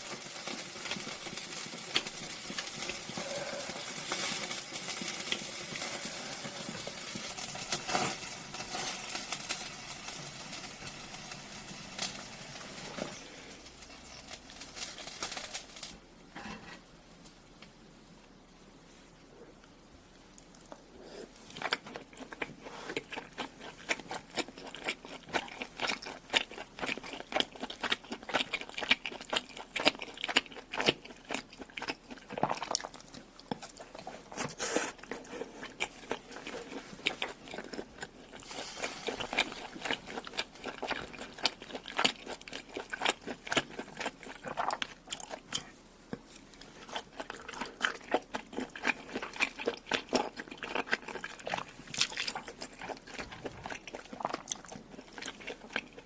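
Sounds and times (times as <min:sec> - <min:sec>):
person chewing food: 0:00.0 - 0:14.4, 0:20.3 - 0:56.0.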